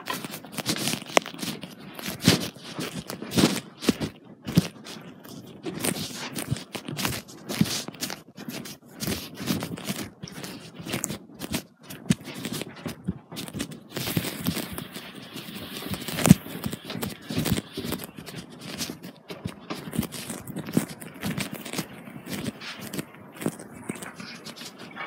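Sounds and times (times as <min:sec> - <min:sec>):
footsteps: 0:00.0 - 0:25.0.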